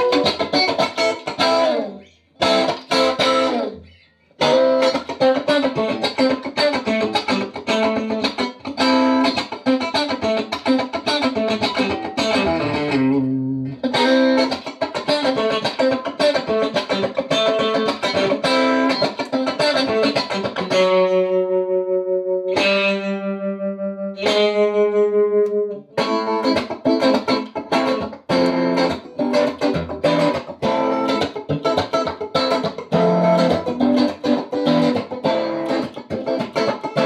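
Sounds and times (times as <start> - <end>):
electric guitar through tube amp: 0.0 - 37.0.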